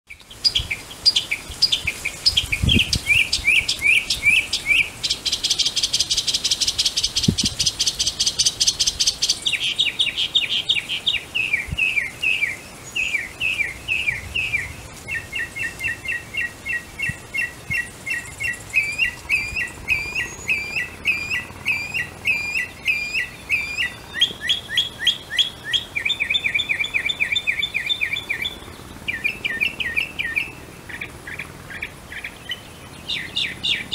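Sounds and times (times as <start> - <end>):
mockingbird singing: 0.1 - 33.9.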